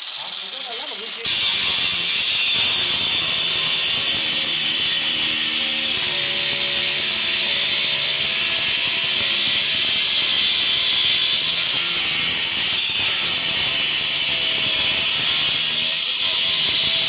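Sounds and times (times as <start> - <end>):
circular saw cutting stone: 0.0 - 17.0.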